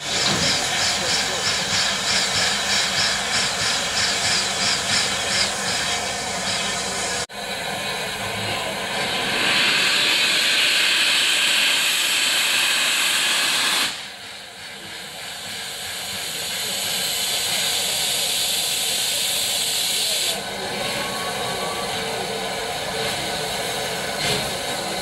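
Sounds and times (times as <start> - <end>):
steam locomotive venting steam: 0.0 - 25.0.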